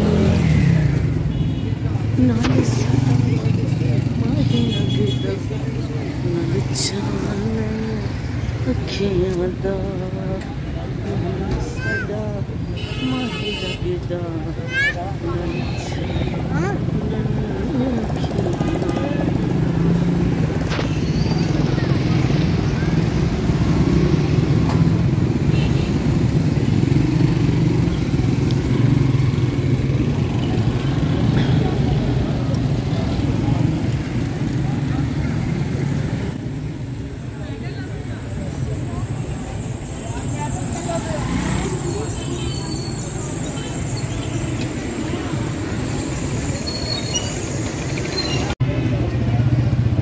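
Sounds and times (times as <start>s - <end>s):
busy street traffic: 0.0s - 50.0s
motorcycle and rickshaw engines: 0.0s - 50.0s.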